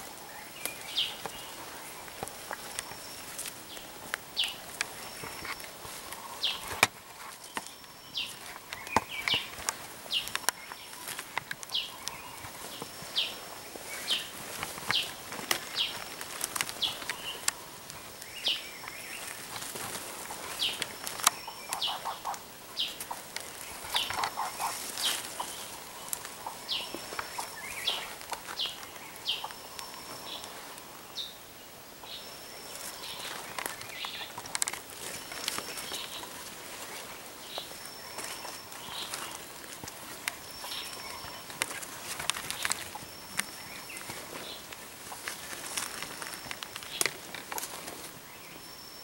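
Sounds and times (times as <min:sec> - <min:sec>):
footsteps in leaf litter: 0:00.0 - 0:31.0, 0:32.5 - 0:48.5
bird trill: 0:00.0 - 0:31.4, 0:32.0 - 0:49.0
bird chirping: 0:00.0 - 0:49.0.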